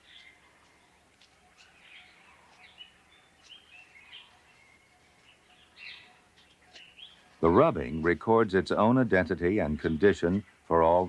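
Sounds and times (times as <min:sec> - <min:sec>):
background hiss: 0:00.0 - 0:11.0
faint birds chirping: 0:00.0 - 0:11.0.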